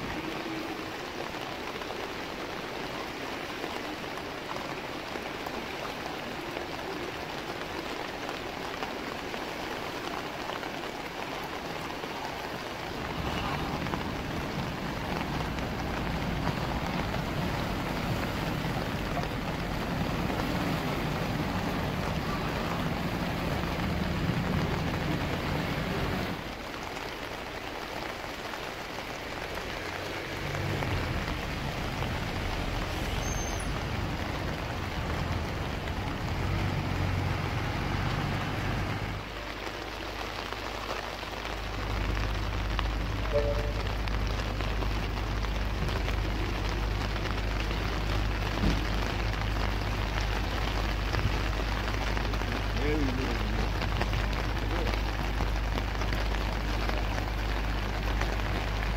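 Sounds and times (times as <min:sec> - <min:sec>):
flood water rushing: 0:00.0 - 0:58.9
low hum of traffic engines: 0:11.6 - 0:58.9.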